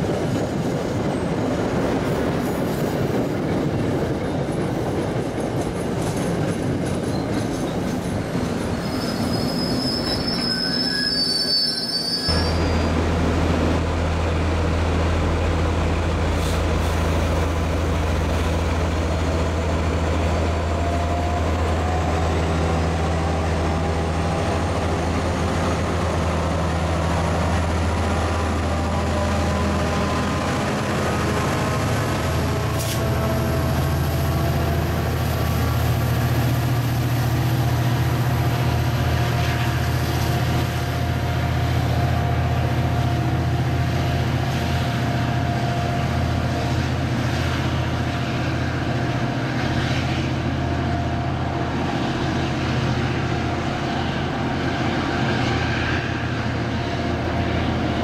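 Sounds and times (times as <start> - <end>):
diesel locomotive droning: 4.4 - 58.0.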